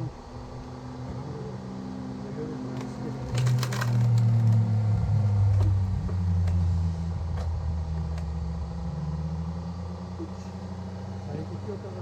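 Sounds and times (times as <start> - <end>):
hydraulic log splitter humming: 0.0 - 12.0.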